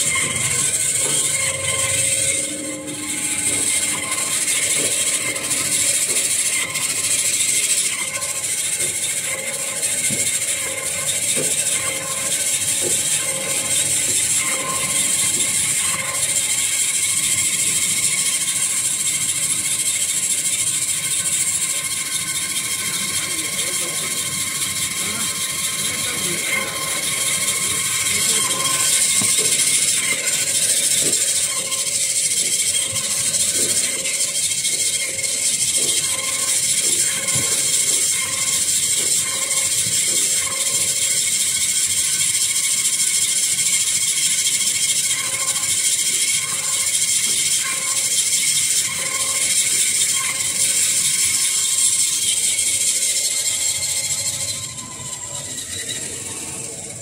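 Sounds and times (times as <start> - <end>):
band saw blade hiss and whine: 0.0 - 57.0.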